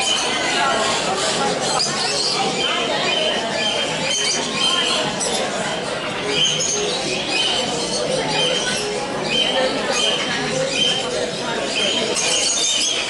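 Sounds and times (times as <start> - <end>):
crowd babble: 0.0 - 13.0.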